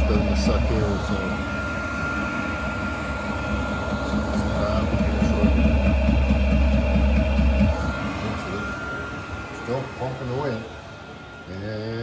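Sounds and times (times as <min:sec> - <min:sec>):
air heater low rumble: 0:00.0 - 0:12.0
thin high whine: 0:00.0 - 0:12.0.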